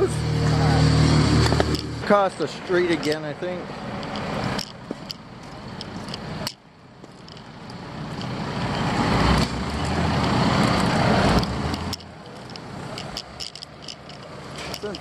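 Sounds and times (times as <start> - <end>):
heavy vehicle engine approaching: 0.0 - 15.0.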